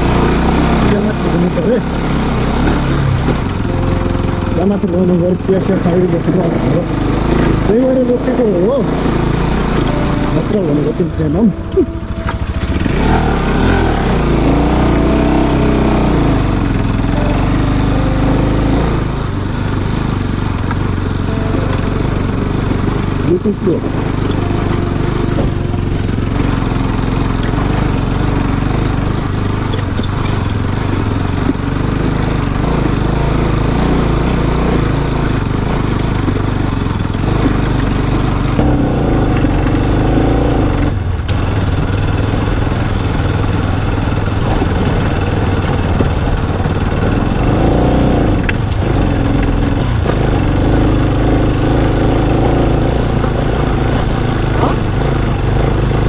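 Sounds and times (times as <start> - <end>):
steady rushing noise: 0.0 - 47.7
motorcycle engine running: 0.0 - 56.0.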